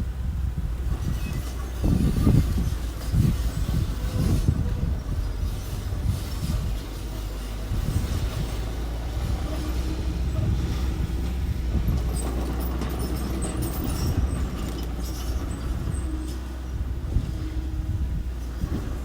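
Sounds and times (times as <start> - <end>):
construction machine engine running: 0.0 - 19.0.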